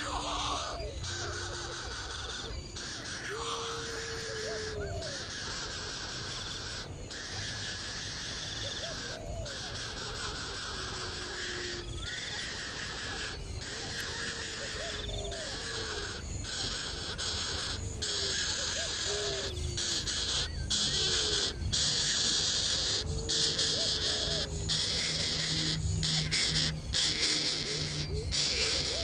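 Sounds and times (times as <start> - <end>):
bird low falling call: 0.0 - 29.0
dense high buzzing: 0.0 - 29.0.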